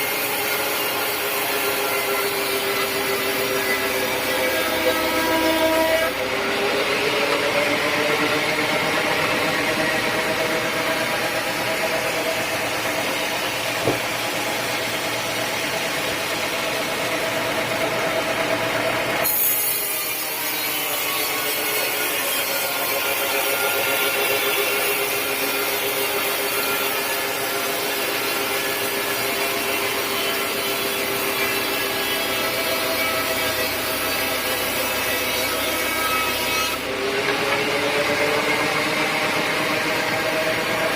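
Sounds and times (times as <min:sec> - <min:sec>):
power saw cutting wood: 0:00.0 - 0:40.9.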